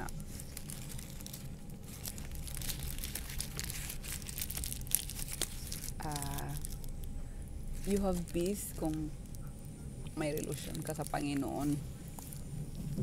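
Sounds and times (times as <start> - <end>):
crinkly rustling and crackles: 0.0 - 13.0.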